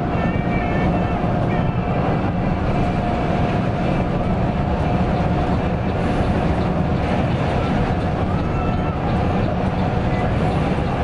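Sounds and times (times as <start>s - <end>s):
coach engine and road rumble: 0.0s - 11.0s.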